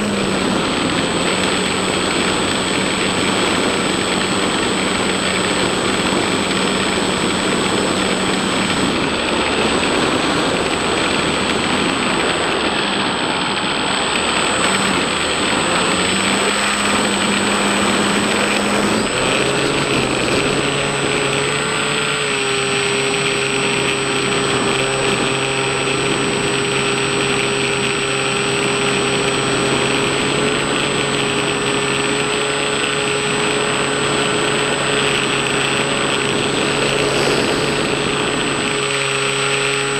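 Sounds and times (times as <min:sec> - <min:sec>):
electric motor and propeller humming: 0:00.0 - 0:39.9.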